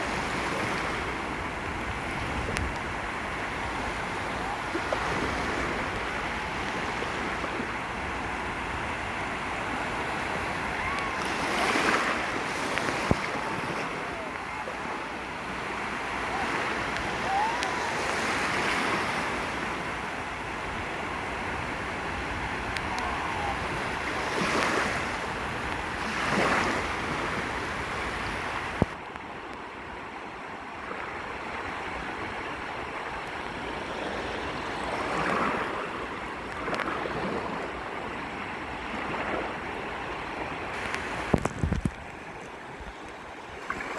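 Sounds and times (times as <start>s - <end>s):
wind rumbling on microphone: 0.0s - 29.7s, 30.6s - 43.9s
sea waves washing onto beach: 0.0s - 43.9s.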